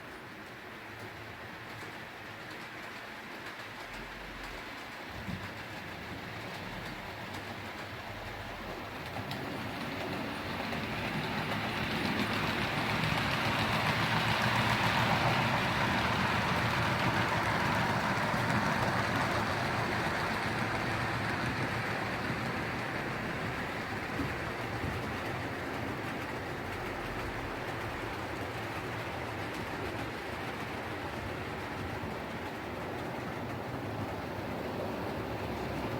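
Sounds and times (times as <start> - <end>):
model train running: 0.0 - 35.9.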